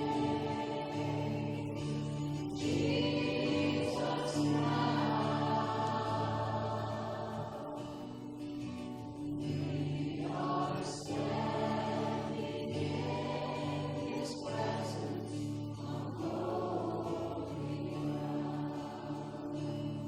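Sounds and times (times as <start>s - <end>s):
congregation singing: 0.0s - 20.0s.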